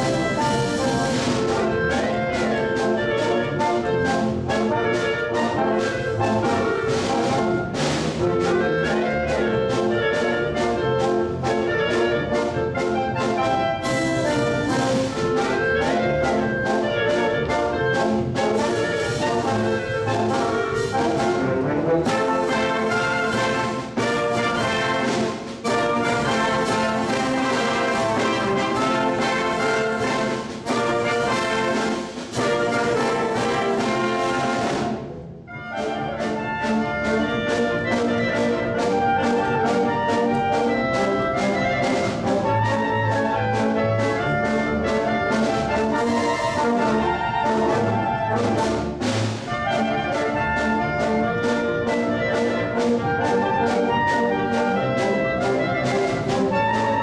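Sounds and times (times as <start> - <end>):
wind band playing: 0.0 - 57.0.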